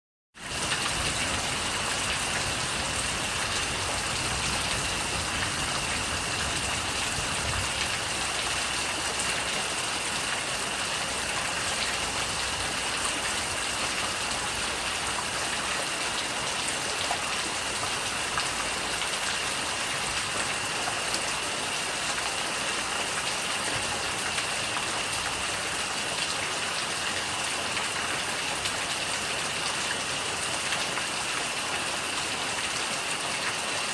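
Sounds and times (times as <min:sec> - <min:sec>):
steady rain falling: 0:00.4 - 0:33.9.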